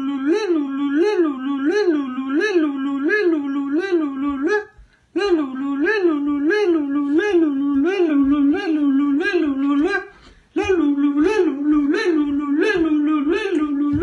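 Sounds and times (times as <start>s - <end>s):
person's wavering siren-like voice: 0.0s - 14.0s.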